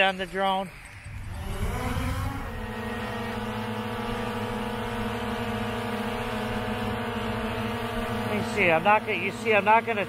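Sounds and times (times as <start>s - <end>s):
drone motors buzzing whine: 0.0s - 10.0s.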